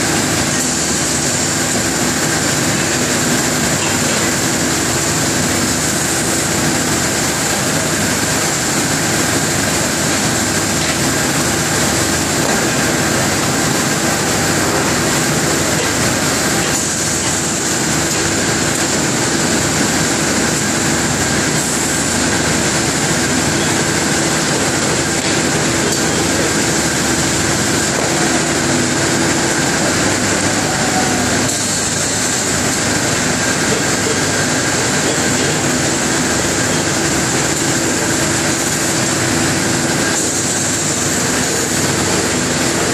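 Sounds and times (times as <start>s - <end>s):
furnaces and air blowers roaring: 0.0s - 42.9s
high steady whine: 0.0s - 42.9s.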